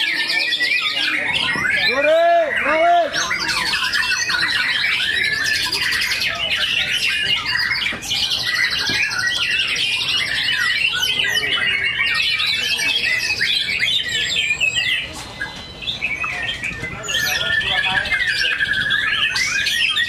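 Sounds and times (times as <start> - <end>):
birds singing whistles and trills: 0.0 - 20.0.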